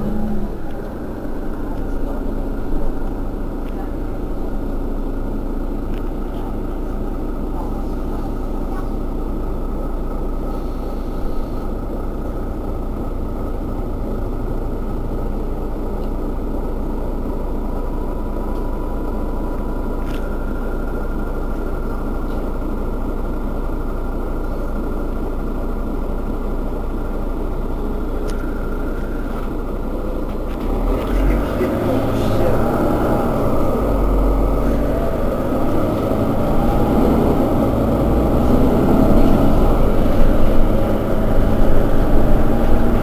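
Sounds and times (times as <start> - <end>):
bus diesel engine idling: 0.0 - 43.0.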